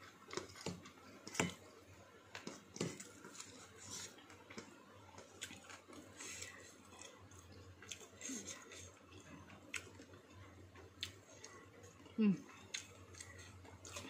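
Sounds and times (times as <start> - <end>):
person chewing: 2.3 - 14.0.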